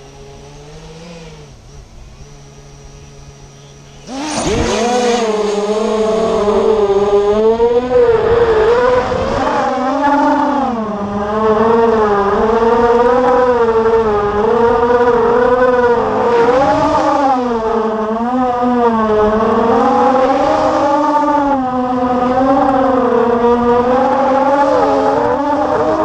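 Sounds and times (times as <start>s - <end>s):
drone motors buzzing: 0.0s - 26.0s.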